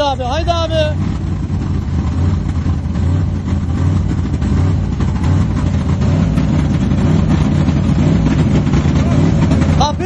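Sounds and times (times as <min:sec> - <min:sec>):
vehicle engine running at low revs: 0:00.0 - 0:10.0.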